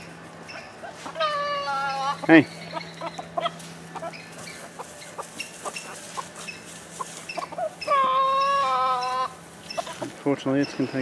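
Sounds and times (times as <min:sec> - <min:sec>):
chickens clucking: 0:00.0 - 0:11.0
chicken drawn-out loud call: 0:00.5 - 0:10.2.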